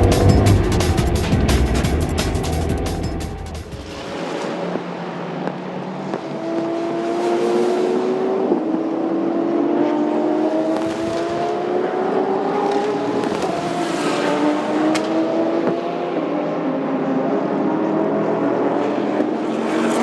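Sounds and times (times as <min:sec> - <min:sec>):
racing car engine accelerating: 0:00.0 - 0:05.4, 0:06.0 - 0:20.0.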